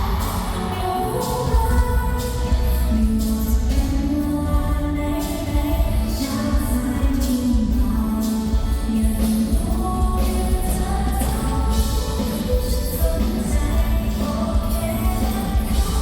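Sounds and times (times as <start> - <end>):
bass-heavy pop backing: 0.0 - 16.0
woman singing: 0.0 - 16.0.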